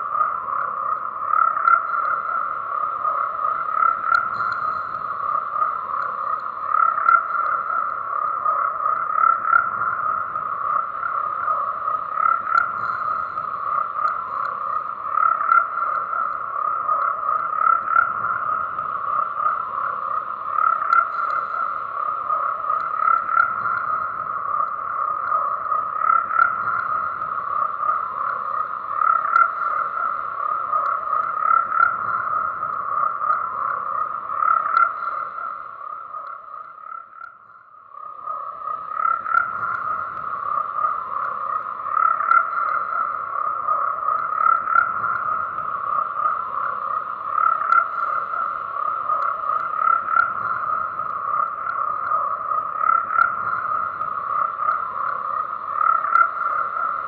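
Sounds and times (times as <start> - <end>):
frogs croaking chorus: 0.0 - 57.0.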